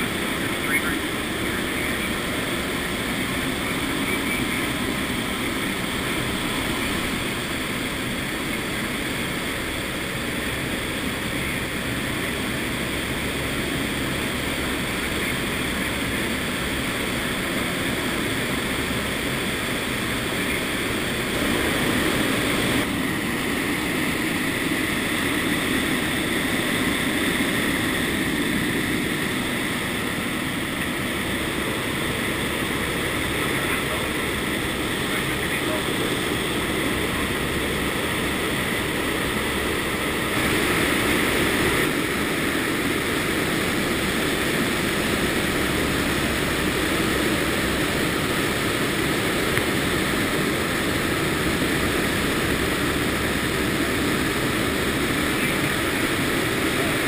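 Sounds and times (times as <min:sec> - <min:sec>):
propeller aircraft engines: 0:00.0 - 0:57.0.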